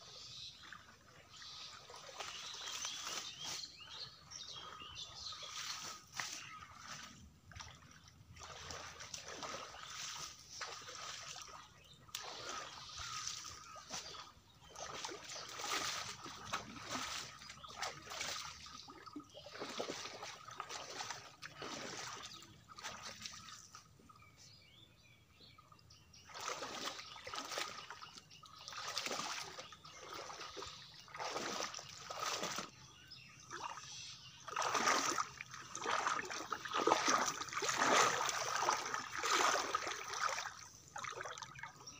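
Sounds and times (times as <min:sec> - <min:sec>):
water splashing and sloshing: 0:00.0 - 0:24.5, 0:25.3 - 0:41.9.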